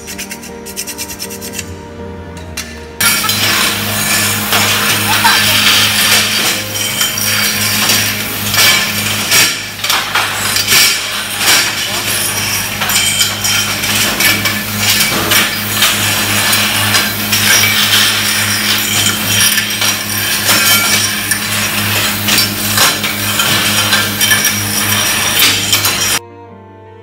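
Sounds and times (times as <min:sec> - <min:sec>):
metal housings knocking and clinking: 0:02.5 - 0:26.2.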